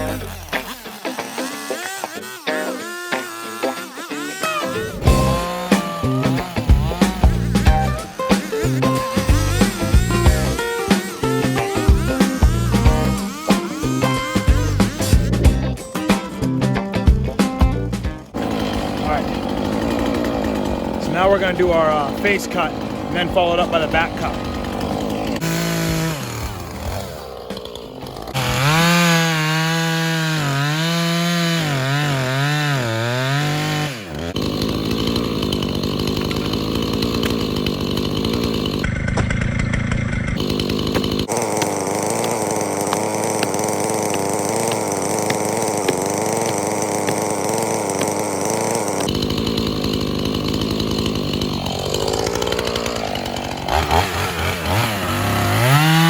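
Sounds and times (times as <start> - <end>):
chainsaw cutting a trunk: 0.0 - 56.0.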